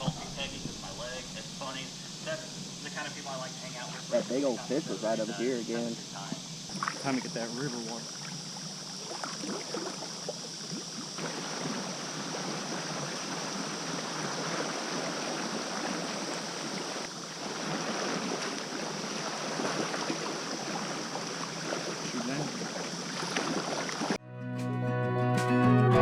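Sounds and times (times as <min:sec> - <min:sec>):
river water splashing: 0:00.0 - 0:24.2.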